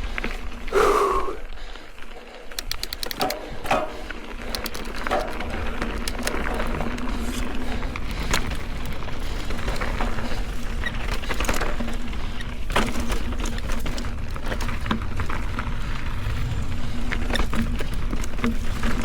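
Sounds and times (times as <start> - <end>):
bike tyres rumbling on dirt: 0.0 - 19.0
bike clicks and knocks: 1.9 - 19.0.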